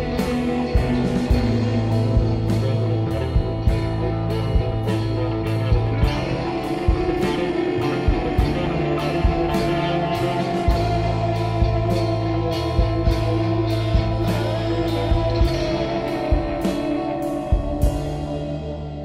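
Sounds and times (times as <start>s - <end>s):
electric guitar: 0.0s - 19.0s
steady beat with sharp hits: 0.0s - 19.0s.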